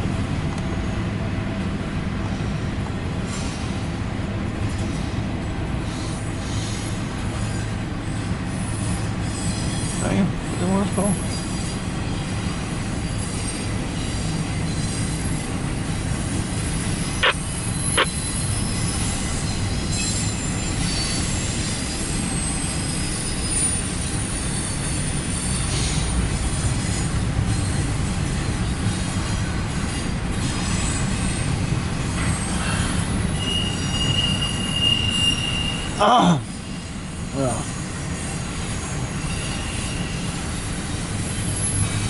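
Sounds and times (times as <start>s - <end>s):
freight train rumbling past: 0.0s - 42.0s
high wheel squeal: 3.2s - 4.0s, 4.7s - 42.0s.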